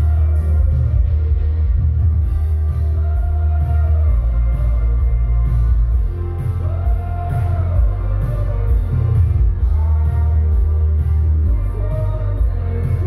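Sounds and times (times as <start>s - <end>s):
synthwave band playing: 0.0s - 13.0s.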